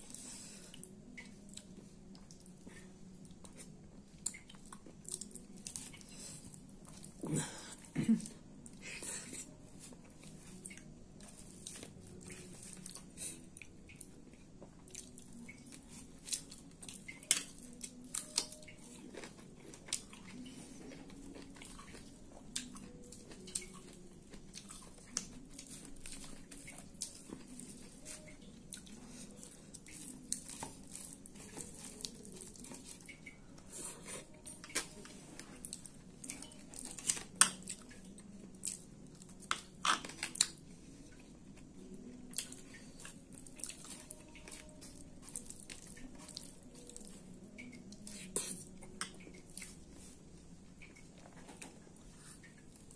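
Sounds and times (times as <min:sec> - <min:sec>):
person chewing: 0:00.0 - 0:52.9.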